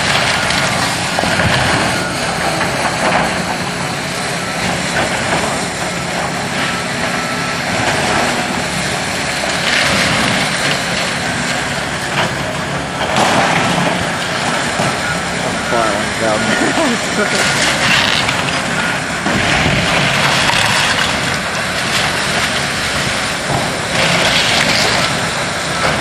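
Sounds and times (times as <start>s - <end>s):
diesel demolition machinery: 0.0s - 26.0s.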